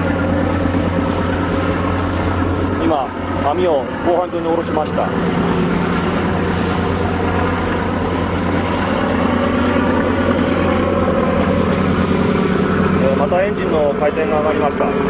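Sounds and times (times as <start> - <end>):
ship engine drone: 0.0 - 15.0
water noise: 0.0 - 15.0.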